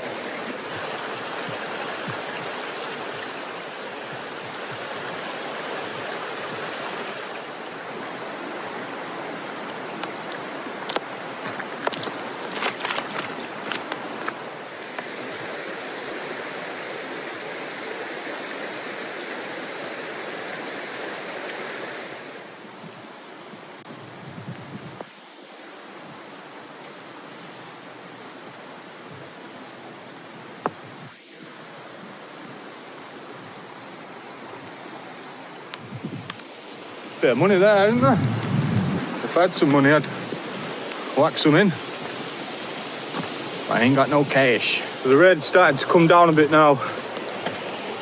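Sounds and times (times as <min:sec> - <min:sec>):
stream rushing: 0:00.0 - 0:48.0.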